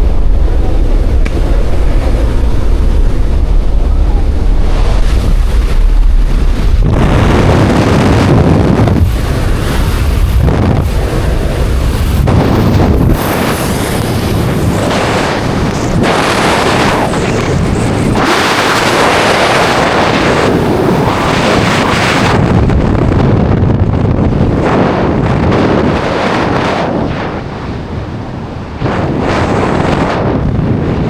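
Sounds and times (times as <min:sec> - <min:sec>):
deep rumble: 0:00.0 - 0:31.0
wind buffeting microphone: 0:00.0 - 0:31.0.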